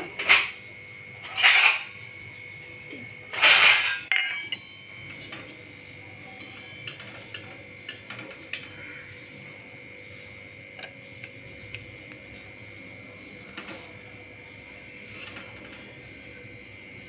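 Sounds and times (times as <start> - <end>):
high-pitched hum: 0.0 - 17.0.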